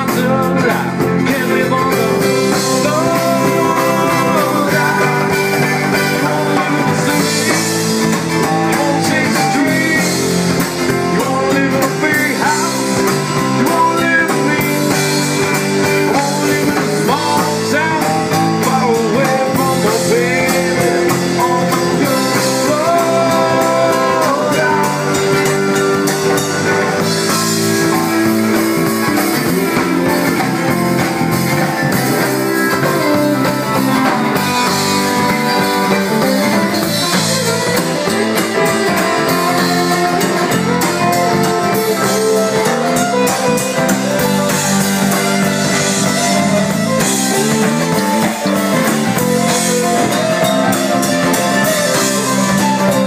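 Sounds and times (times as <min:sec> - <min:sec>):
drum kit: 0:00.0 - 0:53.0
electric bass: 0:00.0 - 0:53.0
electric guitar: 0:00.0 - 0:53.0.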